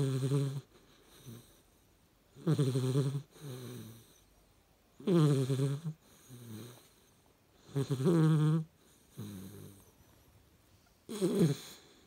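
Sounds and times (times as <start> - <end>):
puppy snoring: 0.0 - 4.4, 5.0 - 10.3, 11.0 - 12.0.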